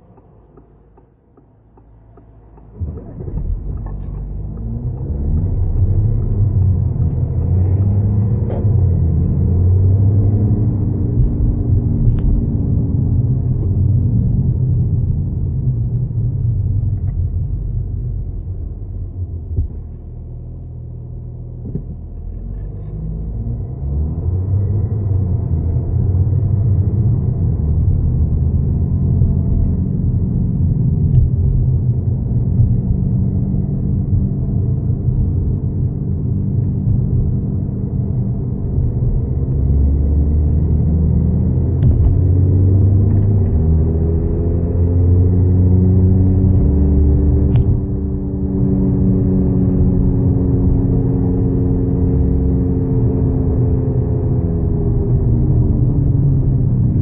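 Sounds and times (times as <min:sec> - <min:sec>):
wheel bearing rumbling drone: 0:00.0 - 0:57.0.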